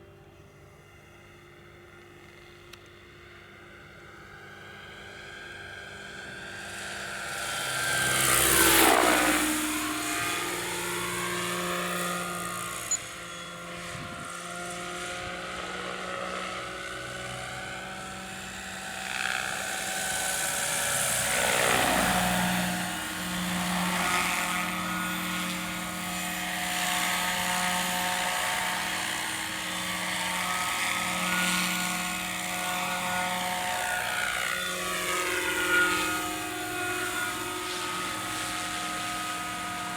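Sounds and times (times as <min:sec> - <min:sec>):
helicopter flying past: 0:00.0 - 0:39.9.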